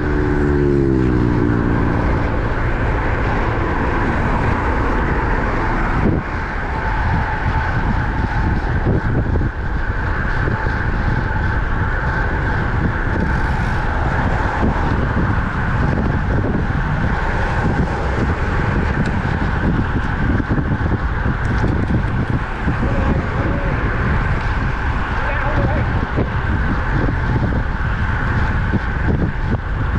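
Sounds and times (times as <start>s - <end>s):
constant higher hum: 0.0s - 29.9s
wind rushing over microphone: 0.0s - 29.9s.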